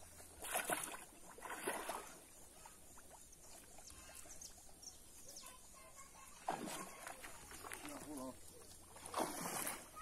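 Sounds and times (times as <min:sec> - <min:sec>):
pond water sloshing: 0:00.0 - 0:10.0
water dripping and small splashes: 0:00.0 - 0:10.0.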